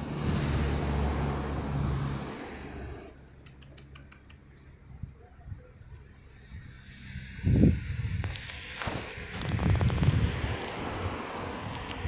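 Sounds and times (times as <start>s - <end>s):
vehicle passing: 0.0s - 4.5s, 6.2s - 12.0s.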